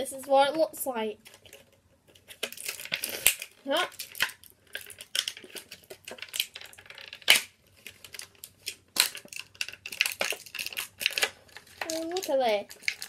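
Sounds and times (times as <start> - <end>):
plastic packaging clicks and crackles: 1.2 - 13.0.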